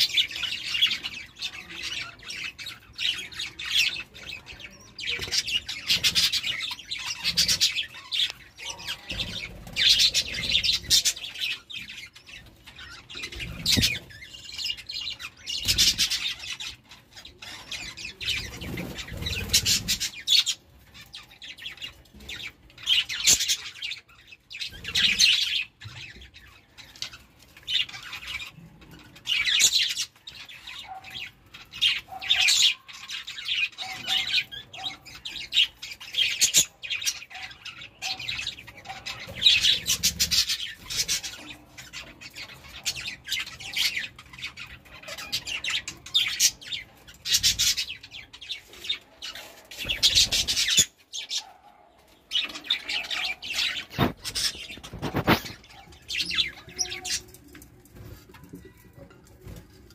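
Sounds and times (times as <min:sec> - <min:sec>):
budgerigars chirping: 0:00.0 - 0:28.5, 0:29.1 - 0:57.3.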